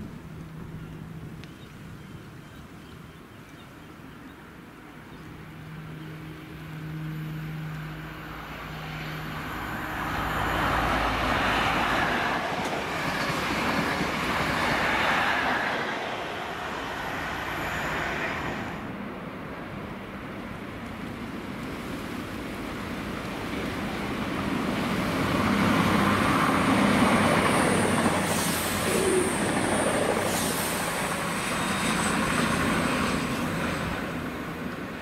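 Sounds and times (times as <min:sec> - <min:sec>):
wheels rushing on rail: 0:00.0 - 0:35.0
train passing: 0:04.4 - 0:35.0.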